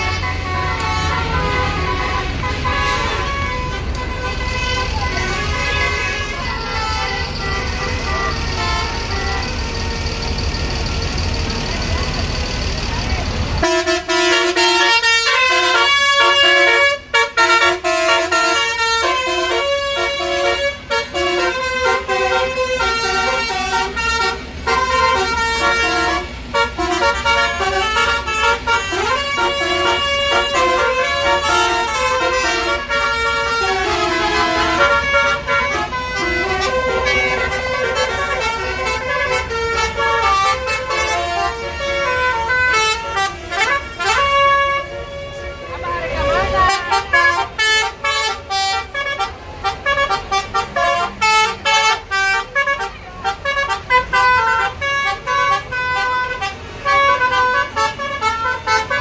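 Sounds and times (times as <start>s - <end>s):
multi-tone air horns playing tune: 0.0s - 10.4s, 13.0s - 59.0s.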